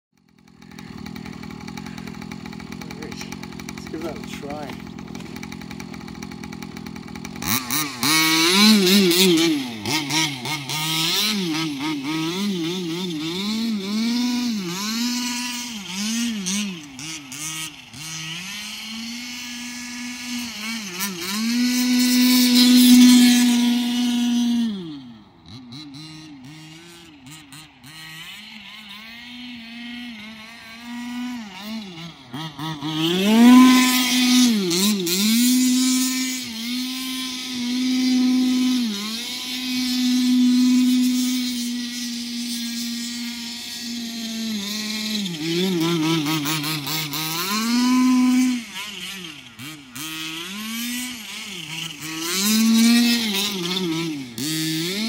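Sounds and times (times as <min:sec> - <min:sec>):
rc truck engine revving: 0:00.1 - 0:55.0.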